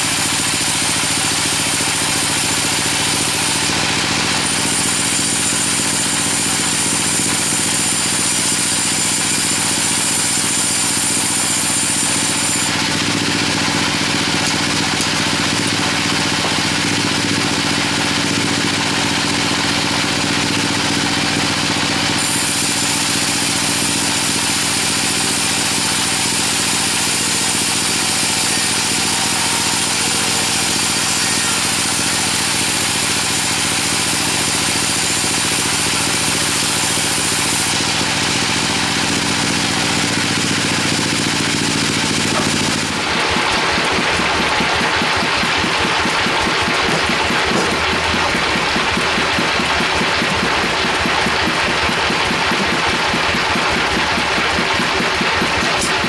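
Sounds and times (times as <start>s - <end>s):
sawmill saw running: 0.0s - 56.0s.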